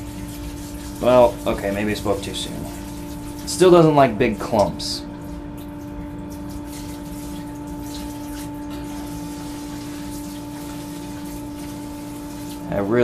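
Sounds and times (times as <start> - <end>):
liquid splashing from hose: 0.0 - 12.8
pump motor humming: 0.0 - 13.0.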